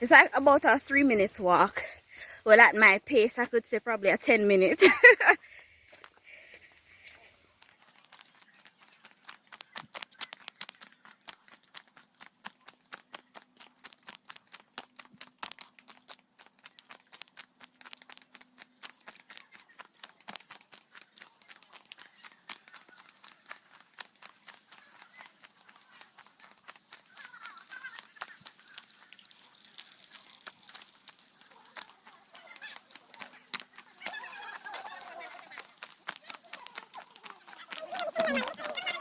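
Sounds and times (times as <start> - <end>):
footsteps on footpath: 4.8 - 39.0.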